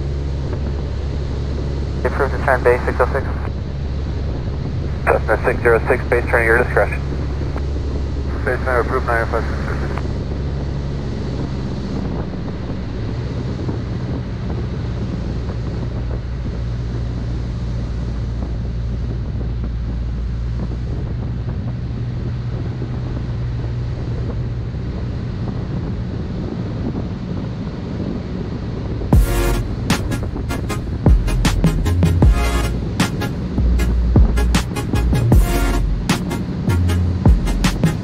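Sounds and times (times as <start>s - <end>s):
aircraft engine droning: 0.0s - 38.0s
rushing wind noise: 0.0s - 38.0s.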